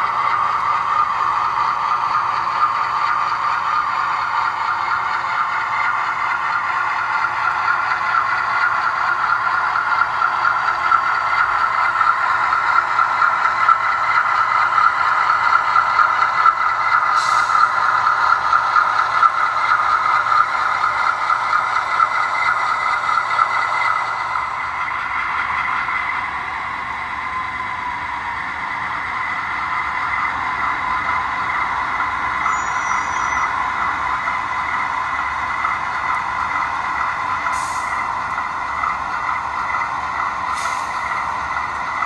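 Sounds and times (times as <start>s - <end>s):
diesel engine sound from small speaker: 0.0s - 42.0s.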